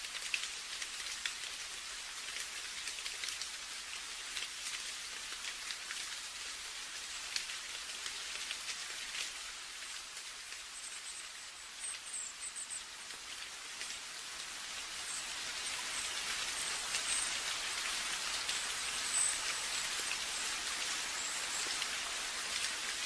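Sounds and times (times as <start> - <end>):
raindrops ticking close by: 0.0 - 23.0
steady rain hiss: 0.0 - 23.0.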